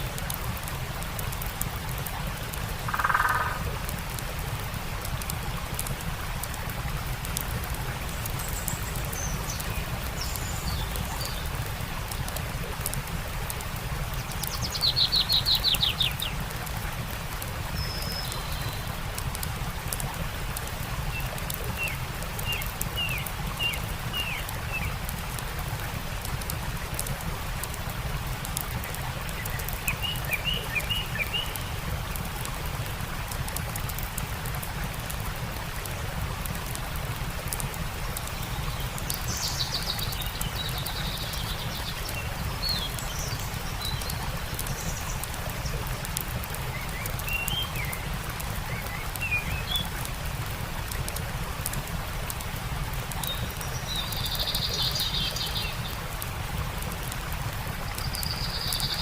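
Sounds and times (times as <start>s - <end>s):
campfire crackling and popping: 0.0s - 59.0s
stream water rushing: 0.0s - 59.0s.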